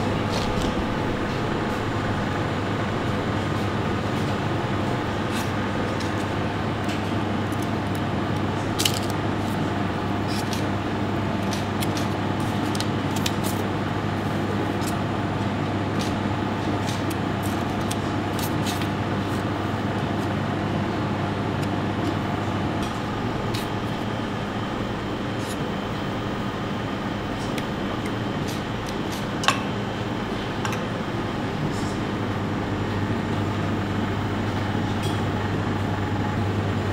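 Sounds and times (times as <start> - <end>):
ventilation hum: 0.0 - 36.9.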